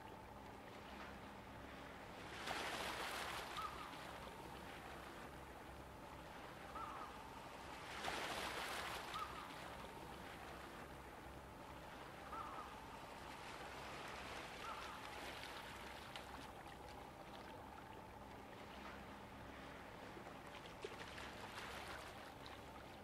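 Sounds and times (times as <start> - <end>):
sea water washing: 1.6 - 23.0.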